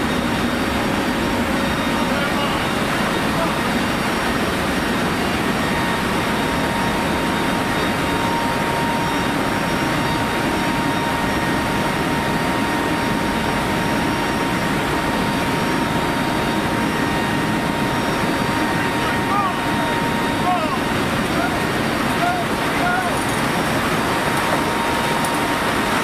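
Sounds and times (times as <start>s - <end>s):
thin steady whine: 0.0s - 26.0s
turboprop engines droning: 0.0s - 26.0s.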